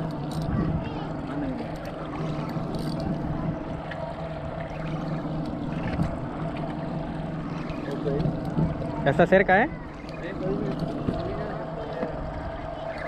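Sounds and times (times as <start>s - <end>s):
boat motor humming: 0.0s - 13.0s
water noise: 0.0s - 13.0s
wind: 0.0s - 13.0s.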